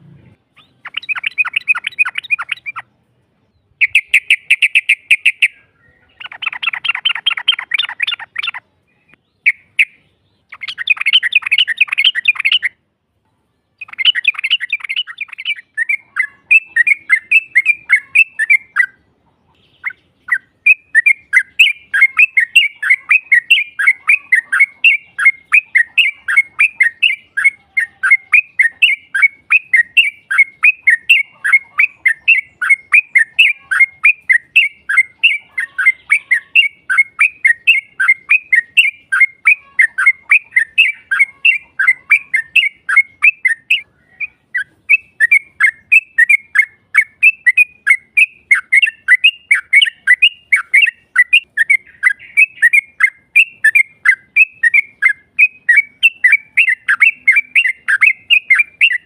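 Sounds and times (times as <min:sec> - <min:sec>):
bulbul chattering song: 0:00.0 - 0:12.9, 0:13.7 - 0:59.0.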